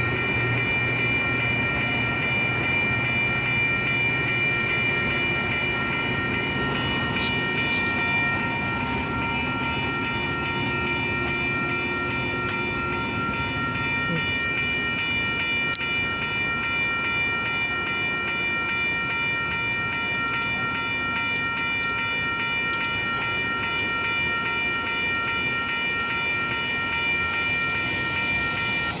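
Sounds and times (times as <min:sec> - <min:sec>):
railroad crossing bells ringing: 0:00.0 - 0:29.0.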